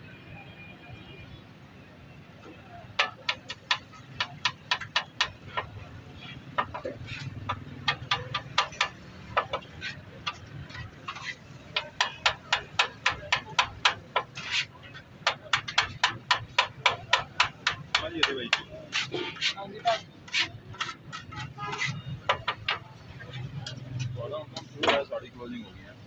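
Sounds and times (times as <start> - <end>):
spatula clacking on griddle: 3.0 - 25.1.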